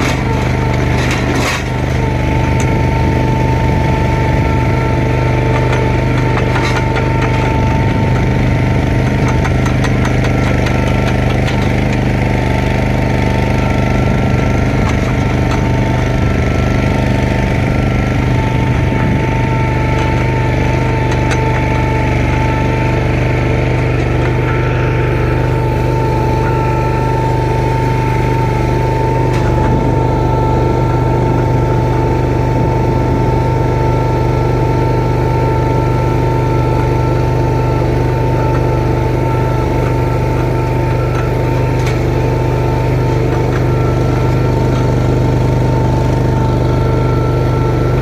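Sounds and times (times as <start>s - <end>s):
steady whine: 0.0s - 48.0s
vehicle engine humming: 0.0s - 48.0s.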